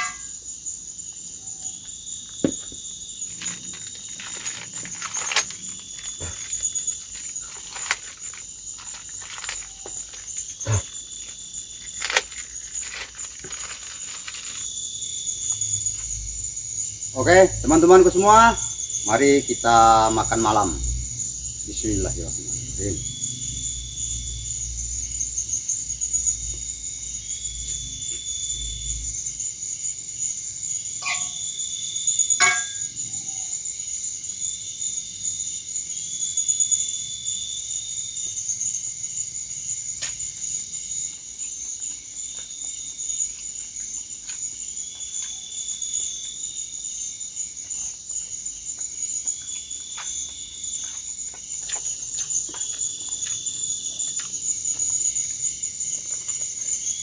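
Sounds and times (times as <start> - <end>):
high-pitched insect trill: 0.0 - 57.0
repeated insect trills: 0.0 - 57.0.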